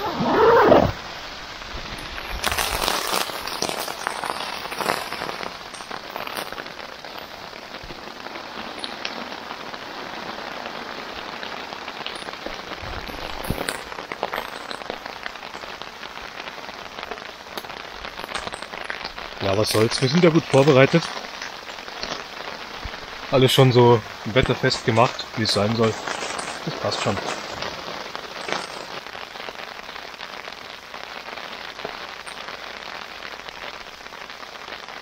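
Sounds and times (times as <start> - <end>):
rain on a tarp: 0.0 - 35.0.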